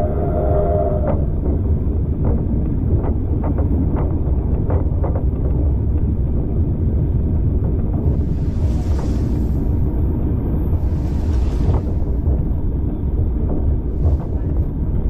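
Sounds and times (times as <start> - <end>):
railway carriage rumbling on track: 0.0 - 15.0.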